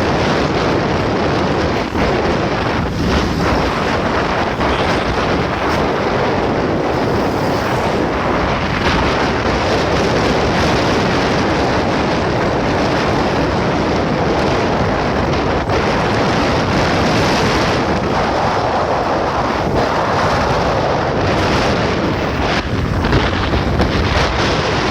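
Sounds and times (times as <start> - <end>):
wind rushing on microphone: 0.0 - 24.9.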